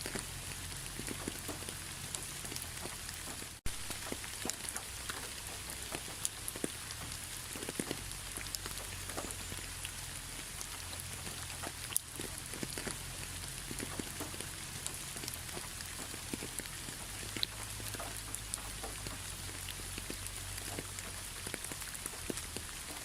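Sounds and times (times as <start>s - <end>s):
rain falling: 0.0s - 23.0s
raindrops ticking sharply: 0.0s - 23.0s.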